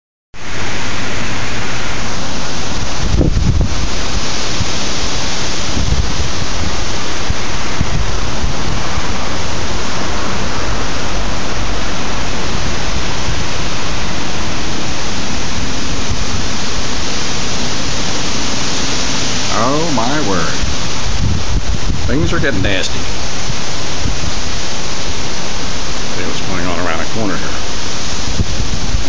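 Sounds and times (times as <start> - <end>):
wind buffeting microphone: 0.4 - 26.6, 27.2 - 29.0
storm wind through trees: 0.4 - 29.0.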